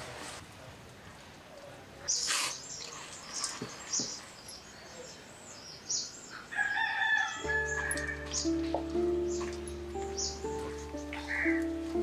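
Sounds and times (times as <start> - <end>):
small birds chirping: 2.0 - 12.0.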